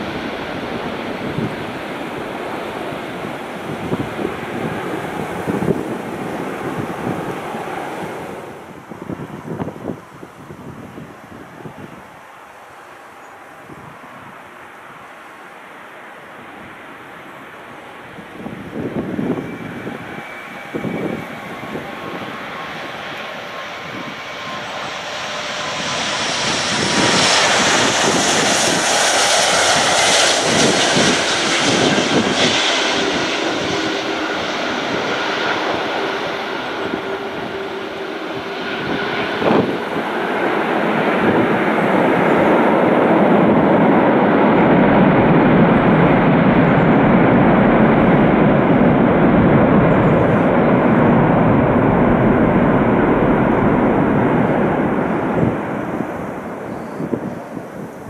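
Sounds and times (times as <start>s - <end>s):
jet airliner passing low: 0.0s - 58.0s
jet engine roar on runway: 0.0s - 58.0s.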